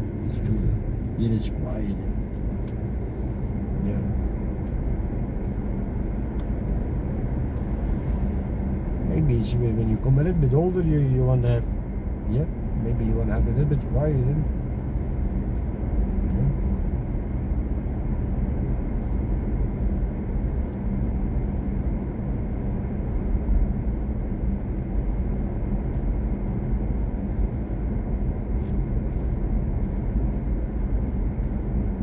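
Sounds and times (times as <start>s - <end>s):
road and tyre rumble: 0.0s - 32.0s.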